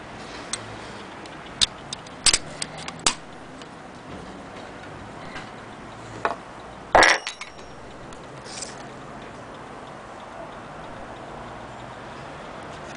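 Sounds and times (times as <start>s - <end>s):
mantel clock ticking: 0.0s - 12.9s.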